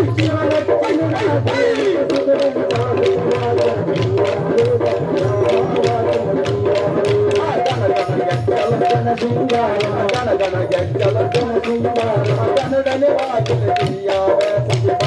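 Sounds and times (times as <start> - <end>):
person singing melody: 0.0 - 15.0
repeating drum beat: 0.0 - 15.0.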